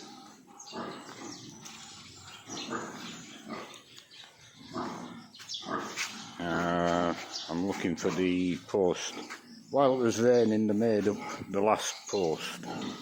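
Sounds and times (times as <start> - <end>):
animals calling in bursts: 0.0 - 13.0.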